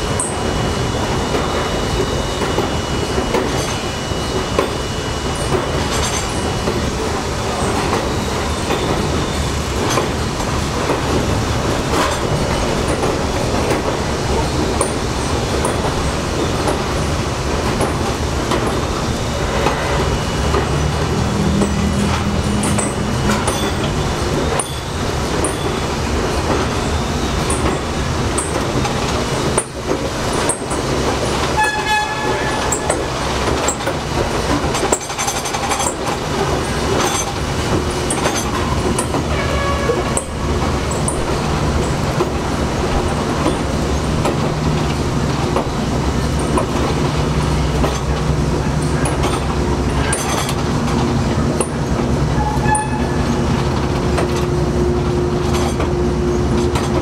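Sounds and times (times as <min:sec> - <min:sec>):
subway train rumbling on track: 0:00.0 - 0:57.0.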